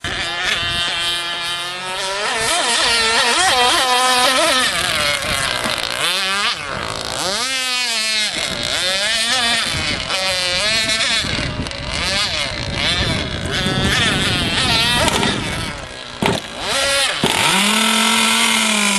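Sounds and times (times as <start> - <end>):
model boat motors whining: 0.0 - 18.9.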